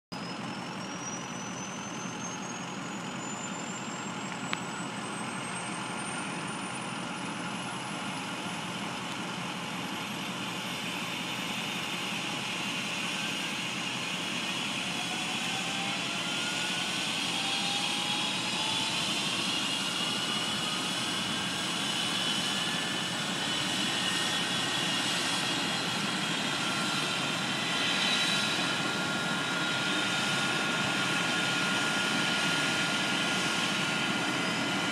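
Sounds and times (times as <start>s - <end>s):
helicopter rotor noise: 0.2s - 34.9s
helicopter turbine whine: 0.2s - 34.9s.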